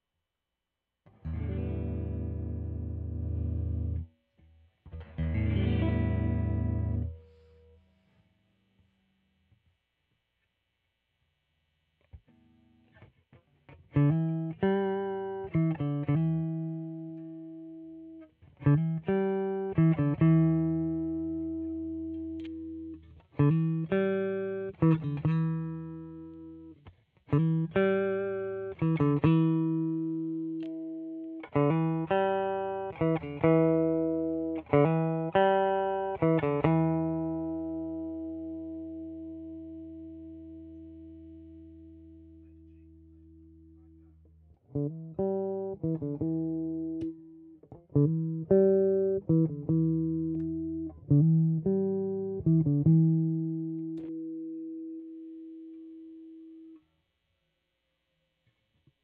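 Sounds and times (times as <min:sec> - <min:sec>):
electric guitar picked notes: 0:01.1 - 0:04.1, 0:04.8 - 0:07.8, 0:12.2 - 0:56.8.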